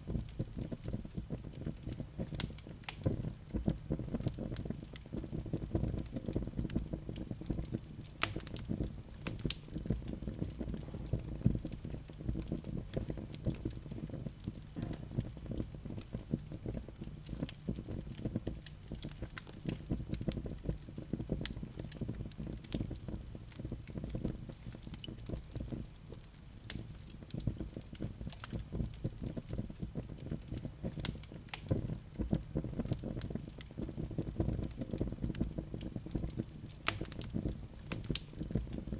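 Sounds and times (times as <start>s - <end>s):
wood crackling and popping: 0.0s - 38.9s.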